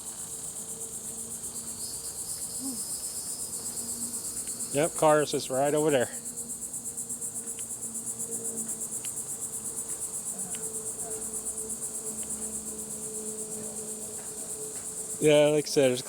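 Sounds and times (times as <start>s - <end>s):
insects pulsing chorus: 0.0s - 16.0s.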